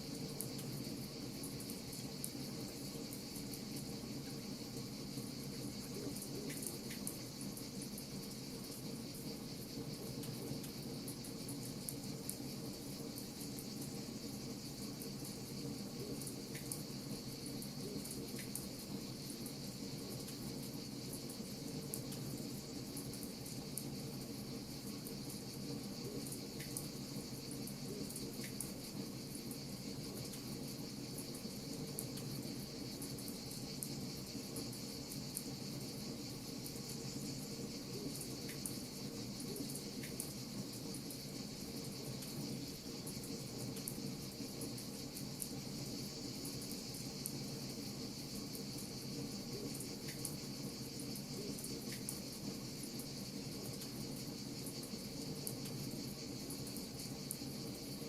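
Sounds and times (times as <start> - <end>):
high-pitched insect trill: 0.0 - 58.0.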